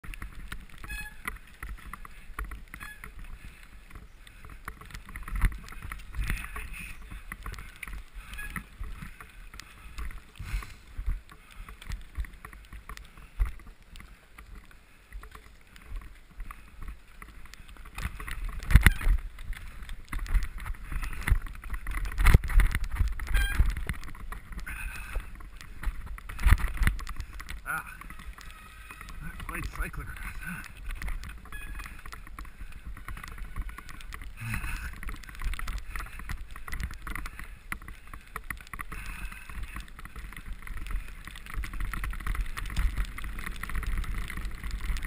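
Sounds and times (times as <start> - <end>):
bicycle knocking and rattling: 0.0 - 45.0.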